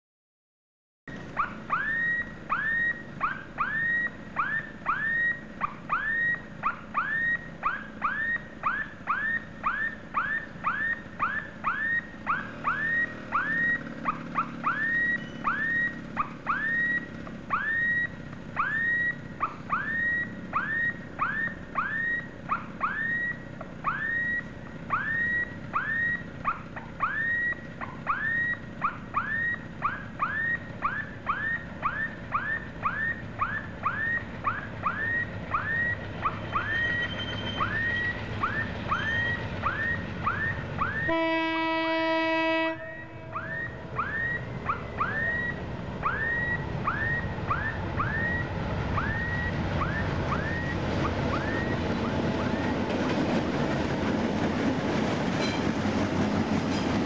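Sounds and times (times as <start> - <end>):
level crossing warning tone: 1.2 - 54.8.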